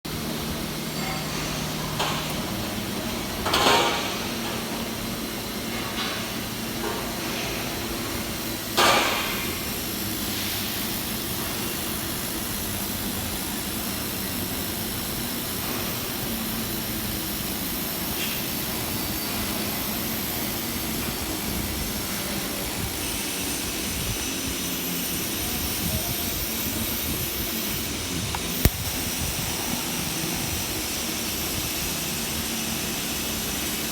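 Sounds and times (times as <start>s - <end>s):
steady workshop hiss: 0.1s - 33.9s.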